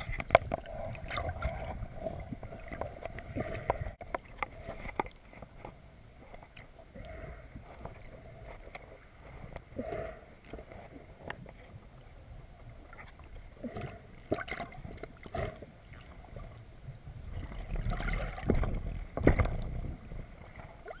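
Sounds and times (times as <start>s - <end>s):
water rushing and gurgling: 0.0s - 21.0s.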